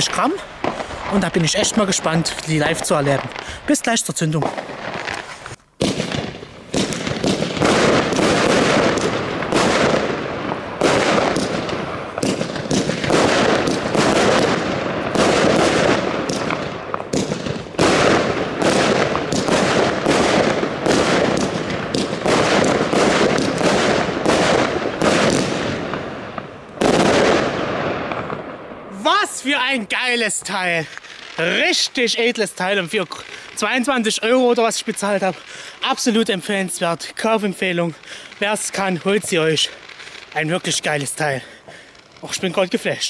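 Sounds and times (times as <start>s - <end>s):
fireworks launching and bursting: 0.0s - 43.0s.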